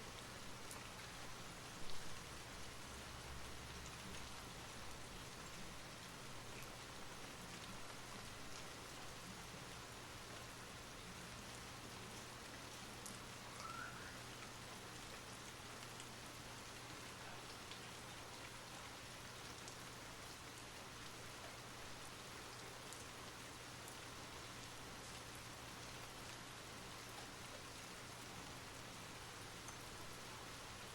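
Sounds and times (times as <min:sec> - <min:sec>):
soft rain hiss: 0:00.0 - 0:30.9.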